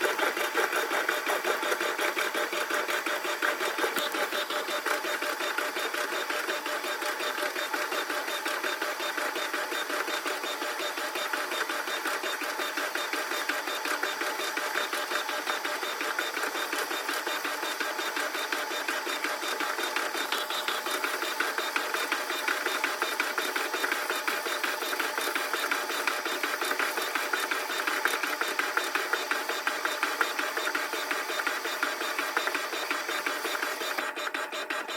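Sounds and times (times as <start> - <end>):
sped-up washing machine chatter: 0.0 - 34.9.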